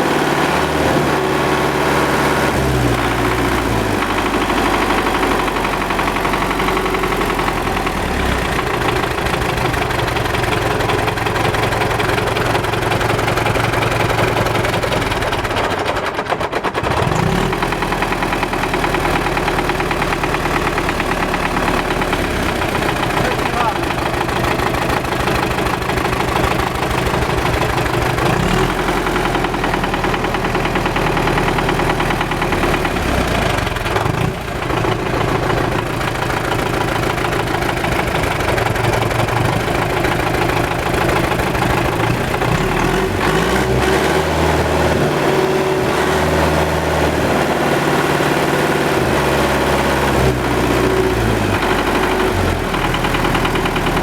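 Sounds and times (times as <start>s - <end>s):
diesel tractor engine knocking: 0.0s - 54.0s.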